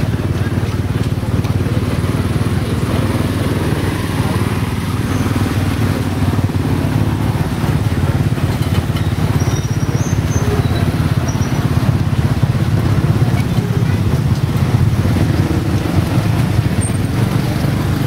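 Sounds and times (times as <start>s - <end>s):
motorcycle engine running: 0.0s - 18.0s
road noise from traffic: 0.0s - 18.0s.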